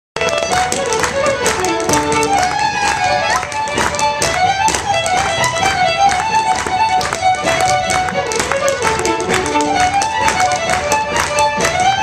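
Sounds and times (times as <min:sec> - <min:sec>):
dance shoes tapping floor: 0:00.2 - 0:12.0
lively fiddle tune: 0:00.2 - 0:12.0.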